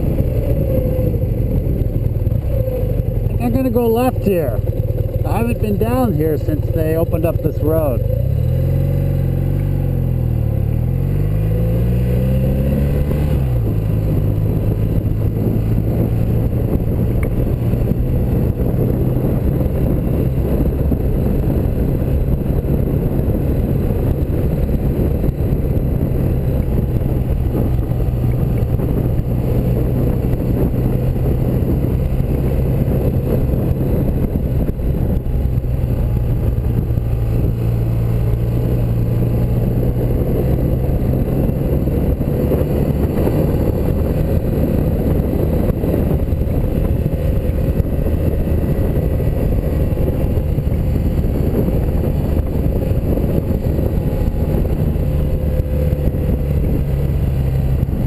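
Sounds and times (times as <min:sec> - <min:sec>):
motorcycle engine: 0:00.0 - 0:58.0
rush of wind noise: 0:00.0 - 0:58.0.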